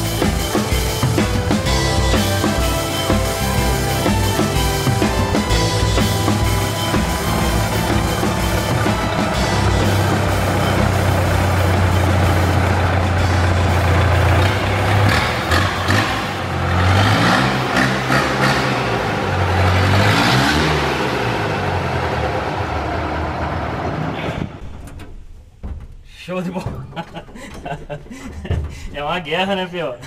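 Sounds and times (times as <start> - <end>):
diesel truck engine revving: 0.0 - 24.7.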